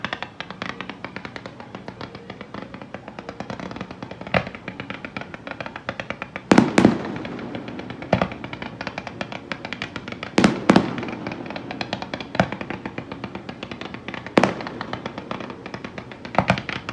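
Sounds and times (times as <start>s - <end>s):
fireworks crackling: 0.0s - 16.9s
fireworks heavy bangs: 0.0s - 16.9s.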